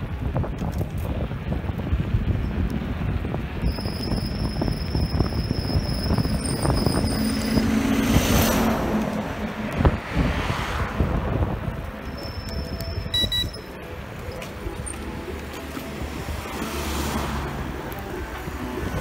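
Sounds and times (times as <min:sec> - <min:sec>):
wind buffeting microphone: 0:00.0 - 0:19.0
truck passing: 0:02.8 - 0:19.0.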